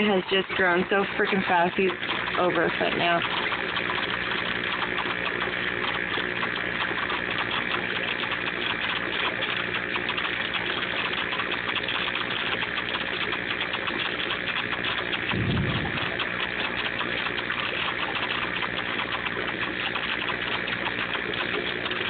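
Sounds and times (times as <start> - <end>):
circulating water rushing: 0.0 - 22.0
filter pump motor hum: 0.0 - 22.0.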